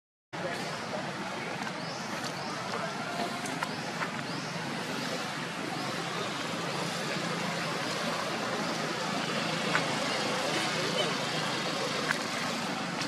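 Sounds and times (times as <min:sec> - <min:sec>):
road traffic noise: 0:00.4 - 0:13.0.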